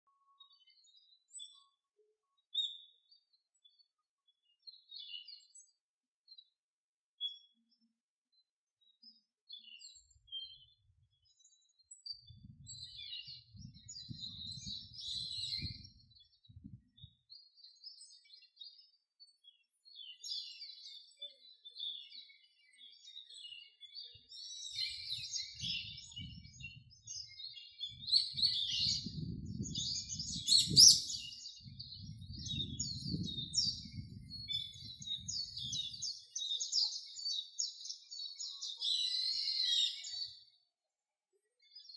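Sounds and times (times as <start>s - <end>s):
small birds chirping: 0.0s - 40.8s, 41.4s - 41.9s.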